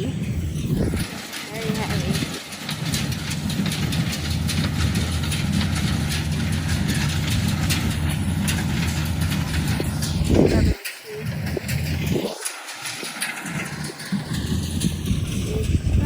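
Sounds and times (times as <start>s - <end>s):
baler mechanism clattering: 0.0s - 16.0s
tractor engine running: 0.0s - 16.0s.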